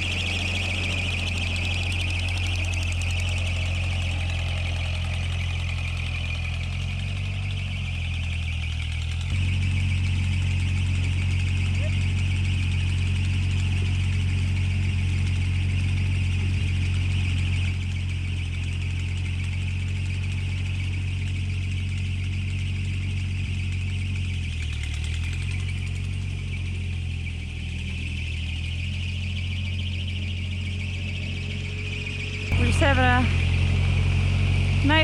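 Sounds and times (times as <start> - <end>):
tractor engine idling: 0.0 - 35.0.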